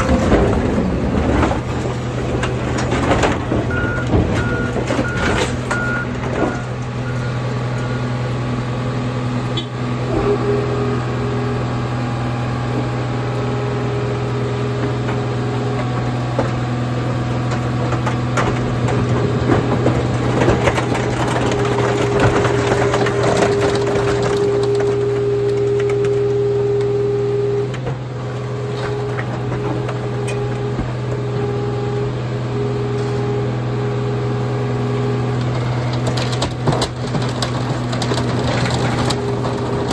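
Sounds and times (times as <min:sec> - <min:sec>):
hydraulic press droning and whining: 0:00.0 - 0:36.6.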